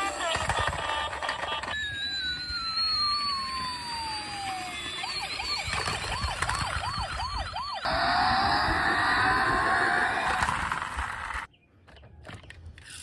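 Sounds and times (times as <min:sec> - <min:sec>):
siren wailing and warbling: 0:00.0 - 0:11.5.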